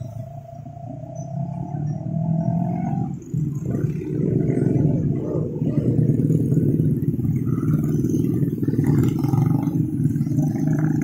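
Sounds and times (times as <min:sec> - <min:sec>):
motorcycle idling and pulling away: 0:00.0 - 0:11.0
traffic engines running: 0:00.0 - 0:11.0.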